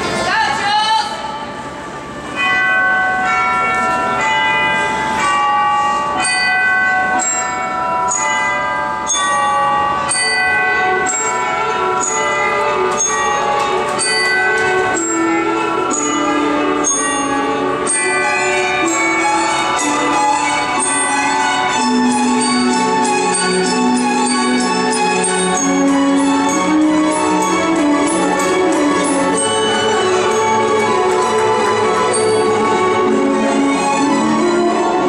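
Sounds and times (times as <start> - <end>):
bell-like melody: 1.9 - 35.0
lower melody line: 3.9 - 35.0.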